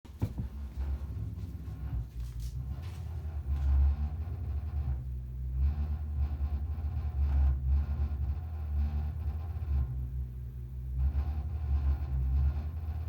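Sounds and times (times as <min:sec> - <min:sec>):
boiler deep rumble: 0:00.1 - 0:13.0.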